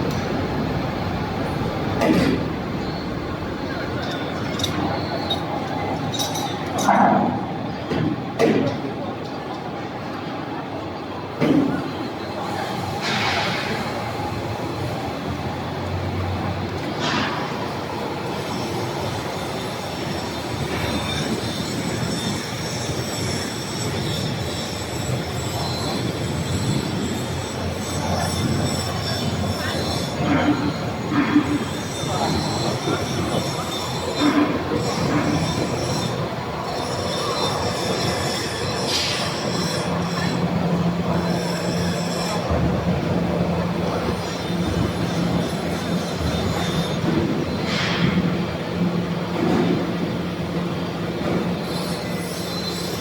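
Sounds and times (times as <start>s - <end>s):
industrial machinery noise: 0.0s - 53.0s.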